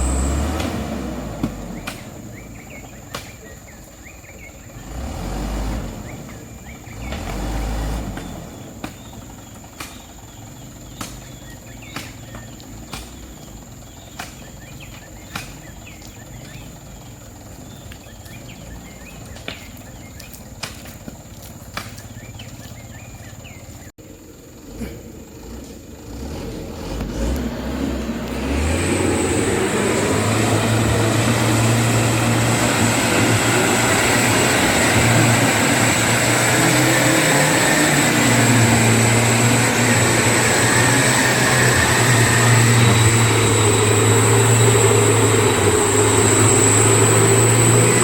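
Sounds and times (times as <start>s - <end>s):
birds chirping: 0.0s - 48.0s
vehicle engine running: 0.0s - 48.0s.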